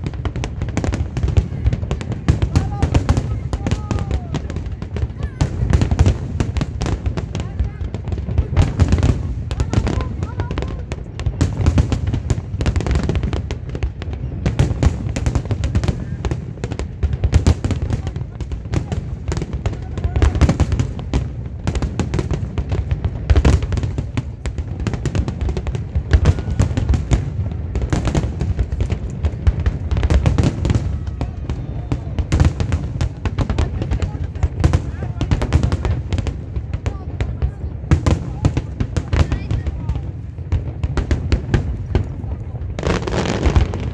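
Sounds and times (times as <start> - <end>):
fireworks booming and crackling: 0.0 - 43.9.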